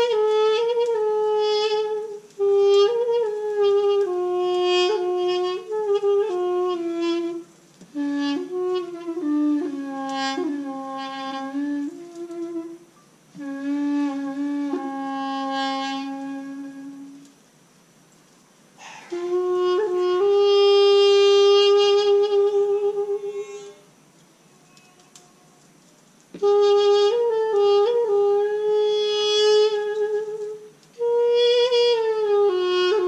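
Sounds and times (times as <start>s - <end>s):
double-reed wind instrument melody: 0.0s - 17.7s, 19.1s - 33.0s.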